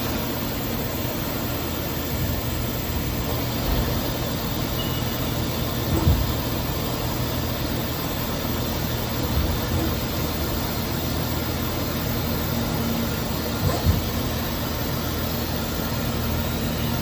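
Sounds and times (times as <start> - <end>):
lathe running with machine hum: 0.0 - 17.0.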